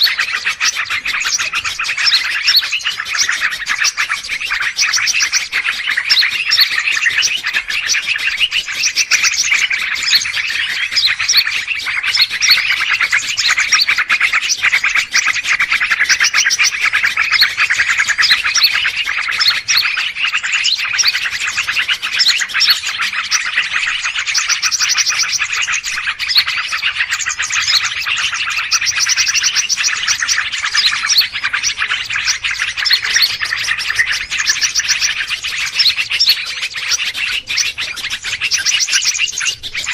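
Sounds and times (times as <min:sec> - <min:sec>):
chorus of songbirds twittering: 0:00.0 - 0:39.9.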